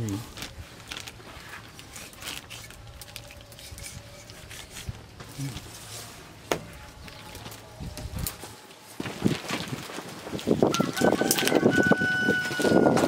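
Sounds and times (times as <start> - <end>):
faint rustles: 0.0 - 10.8.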